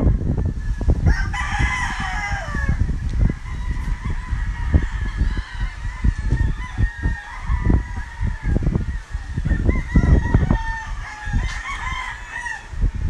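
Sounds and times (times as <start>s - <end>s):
rooster crowing: 0.0s - 12.9s
distant rooster crowing: 0.0s - 13.0s.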